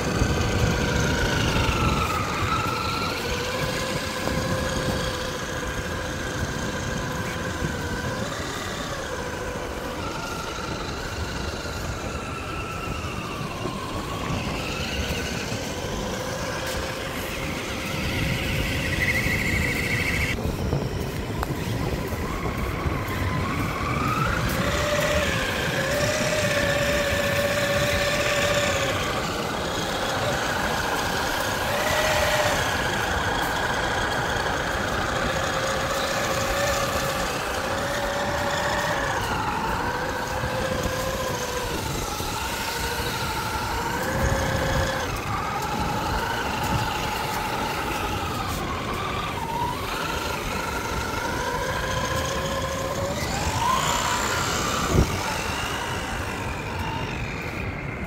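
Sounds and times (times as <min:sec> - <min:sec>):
radio-controlled car motors whining: 0:00.0 - 0:58.0
steady rough noise: 0:00.0 - 0:58.0.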